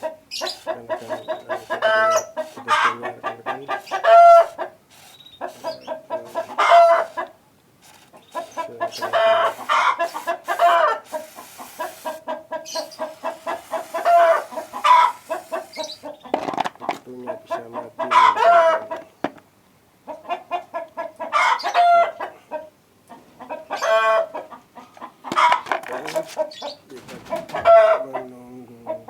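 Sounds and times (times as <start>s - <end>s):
drawn-out bird calls: 0.0s - 19.2s, 23.4s - 29.0s
bird clucking: 0.0s - 19.4s, 20.0s - 29.0s.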